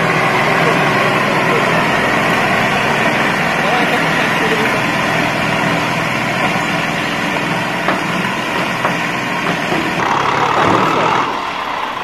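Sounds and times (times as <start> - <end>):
louder engine sound: 0.0 - 12.0
tractor diesel engine running: 0.0 - 12.0.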